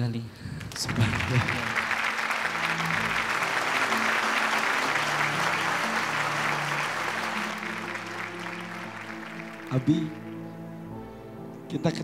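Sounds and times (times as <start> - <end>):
audience applauding: 0.6 - 10.4
soft background music: 1.2 - 12.0.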